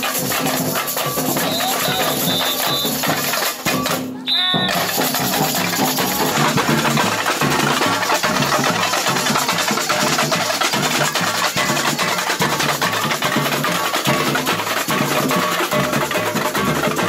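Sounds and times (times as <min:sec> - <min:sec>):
samba music with drums: 0:00.0 - 0:17.0.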